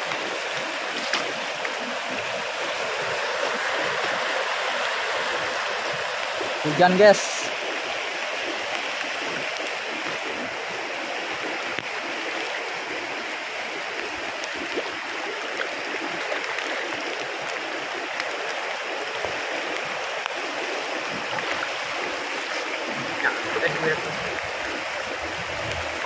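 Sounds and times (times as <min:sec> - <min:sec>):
heavy rain on water: 0:00.0 - 0:26.0
river rushing over rapids: 0:00.0 - 0:26.0.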